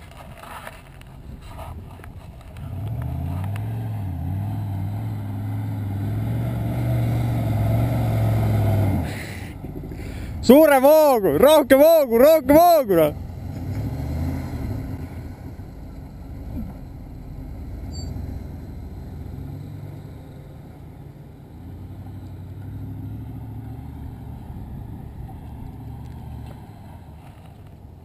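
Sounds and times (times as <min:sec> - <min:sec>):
distant engine revving: 0:02.6 - 0:27.6.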